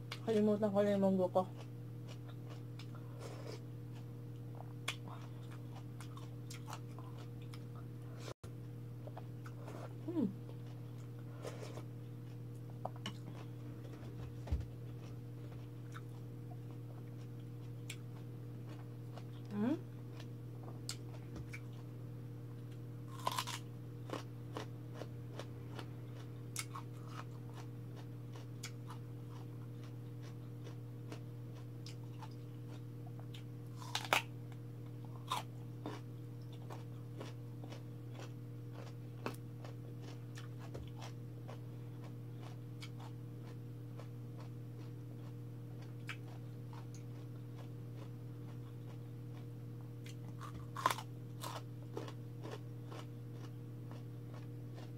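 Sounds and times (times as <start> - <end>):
steady low hum: 0.0 - 54.9
chewing with crunches: 1.3 - 8.4, 9.0 - 22.0, 22.6 - 54.9.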